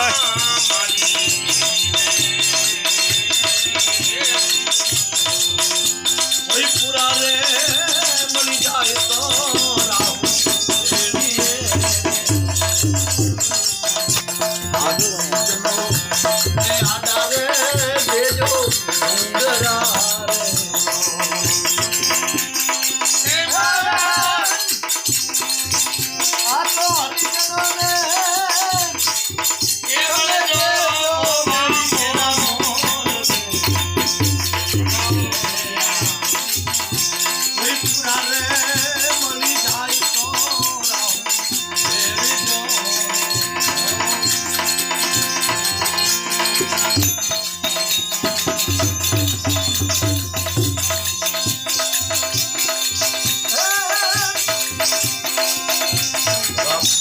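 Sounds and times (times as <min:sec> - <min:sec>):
hand percussion beat: 0:00.0 - 0:57.0.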